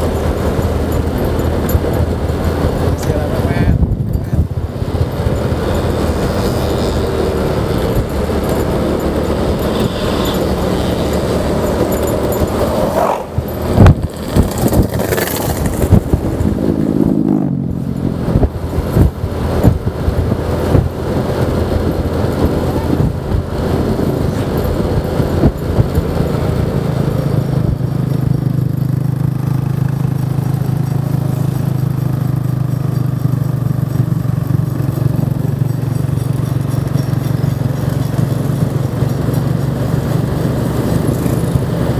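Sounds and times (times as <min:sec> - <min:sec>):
scooter engine running: 0:00.0 - 0:41.9.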